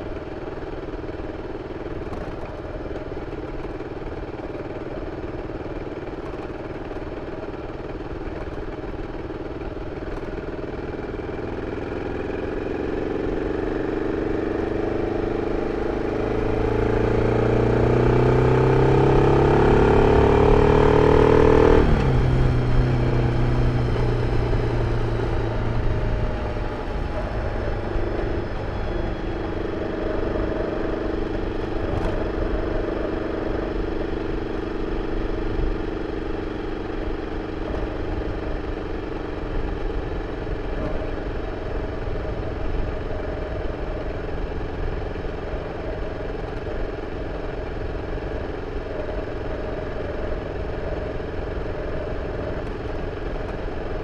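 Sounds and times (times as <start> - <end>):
motorcycle engine revving: 10.4 - 54.0.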